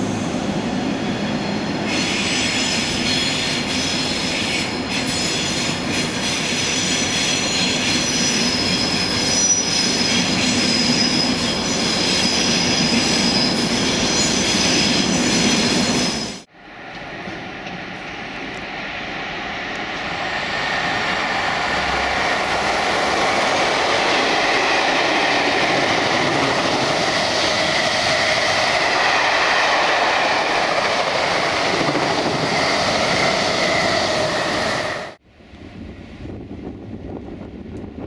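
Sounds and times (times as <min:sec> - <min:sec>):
train wheels rolling on rails: 0:00.0 - 0:35.2.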